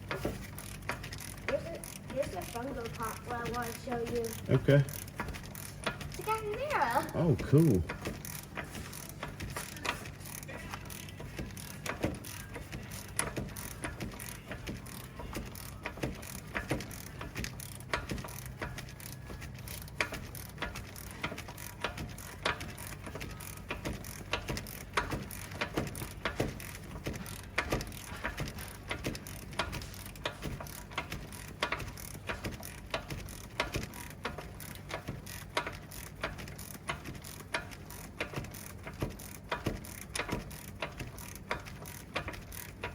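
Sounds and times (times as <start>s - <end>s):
ratchet wrench clicking: 0.0s - 42.9s.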